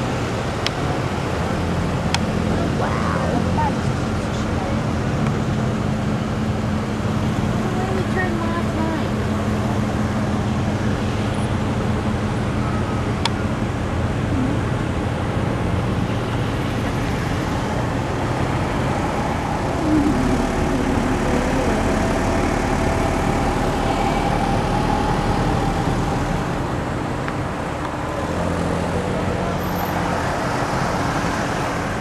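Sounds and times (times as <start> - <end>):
traffic rumble inside vehicle: 0.0 - 32.0.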